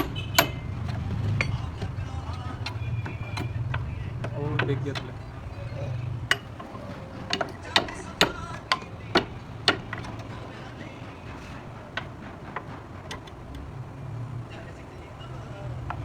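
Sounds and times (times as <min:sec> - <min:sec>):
sharp clicks and knocks: 0:00.0 - 0:14.7.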